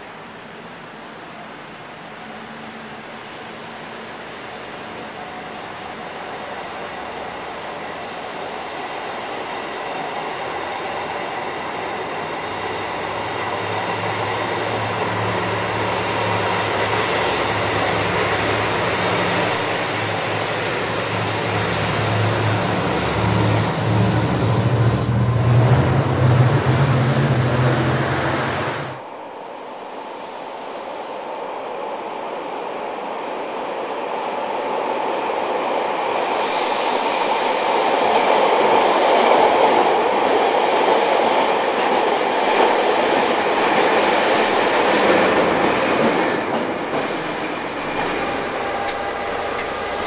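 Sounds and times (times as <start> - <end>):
diesel locomotive engine: 0.0 - 29.2, 35.9 - 50.0
train wheels rumbling on rails: 4.1 - 29.1, 34.6 - 50.0.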